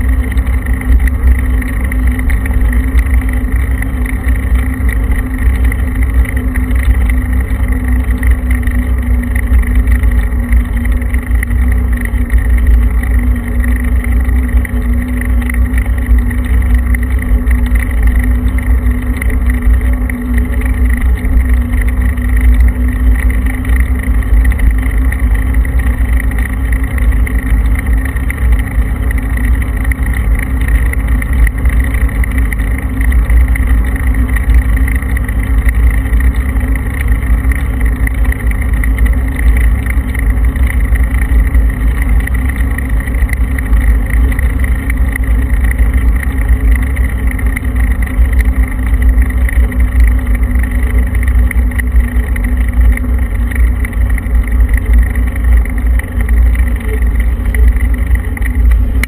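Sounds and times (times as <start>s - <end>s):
vehicle driving with low rumble: 0.0s - 59.0s.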